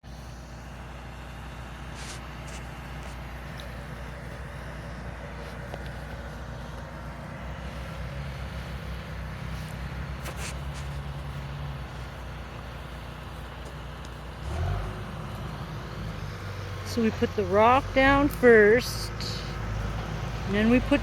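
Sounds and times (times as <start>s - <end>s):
large engine droning: 0.0s - 21.0s.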